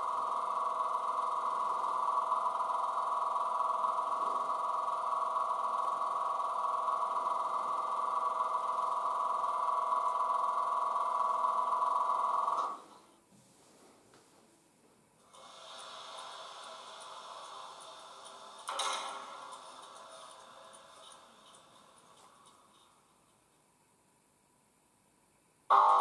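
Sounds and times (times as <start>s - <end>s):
electrical hum from small speaker: 0.0s - 26.0s.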